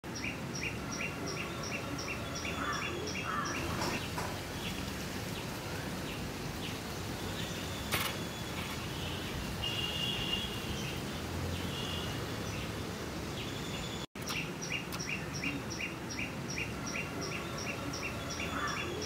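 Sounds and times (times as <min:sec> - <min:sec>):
birds chirping: 0:00.0 - 0:19.0
steady background noise: 0:00.0 - 0:19.0.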